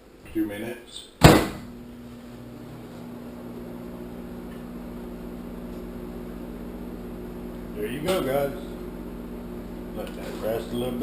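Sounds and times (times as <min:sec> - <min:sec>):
microwave oven humming: 0:01.2 - 0:11.0.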